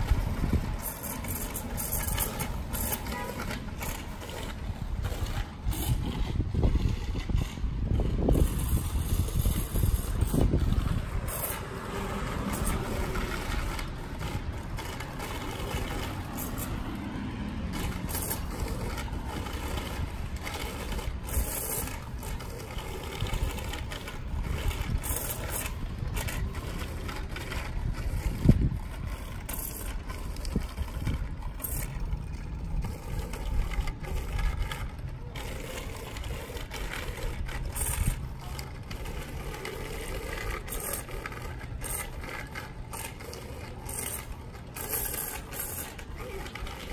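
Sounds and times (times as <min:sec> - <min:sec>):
wind on microphone: 0:00.0 - 0:03.2, 0:04.0 - 0:14.7, 0:15.5 - 0:42.7
bicycle tyres rattling on pavement: 0:00.0 - 0:46.9.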